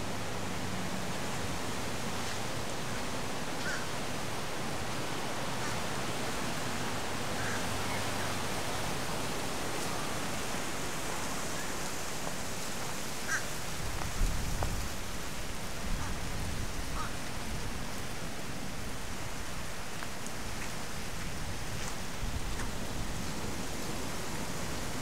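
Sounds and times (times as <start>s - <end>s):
surf and wind hiss: 0.0s - 25.0s.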